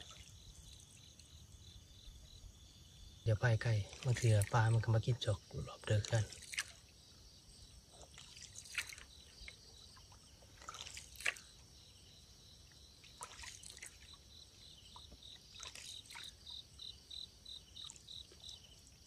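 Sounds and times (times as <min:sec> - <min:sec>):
water drips and splashes: 0:00.0 - 0:01.7, 0:03.2 - 0:11.9, 0:12.6 - 0:19.0
insects chirring: 0:00.0 - 0:19.0
pulsed insect chirp: 0:00.0 - 0:19.0.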